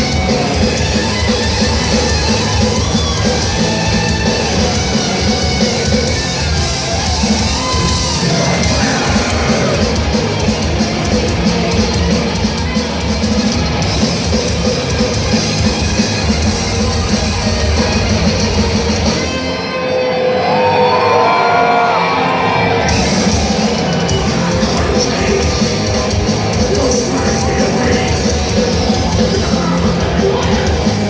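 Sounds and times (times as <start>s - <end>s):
drum kit: 0.0s - 19.6s, 22.9s - 31.0s
distorted guitars: 0.0s - 31.0s
heavy metal band playing live: 0.0s - 31.0s.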